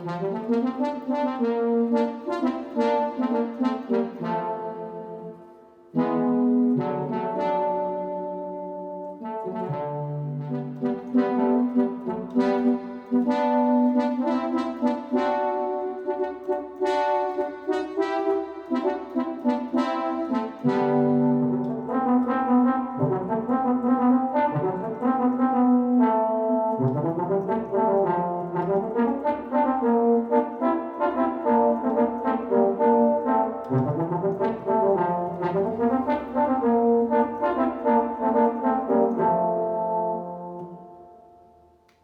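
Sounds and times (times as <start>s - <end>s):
synthesizer brass chords: 0.0s - 42.0s.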